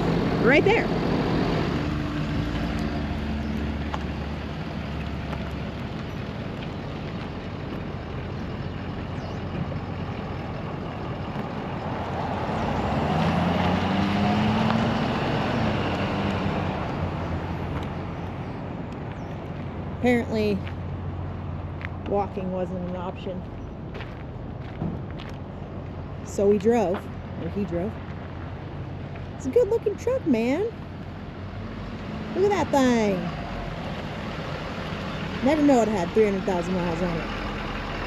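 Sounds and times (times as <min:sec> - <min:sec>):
pickup truck engine: 0:00.0 - 0:38.0
road noise: 0:00.0 - 0:38.0.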